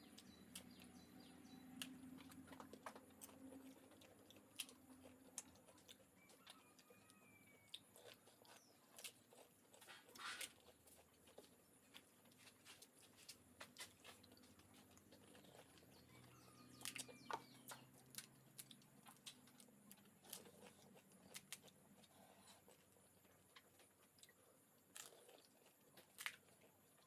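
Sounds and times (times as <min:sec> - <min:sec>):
crunching while chewing: 0:00.0 - 0:27.0.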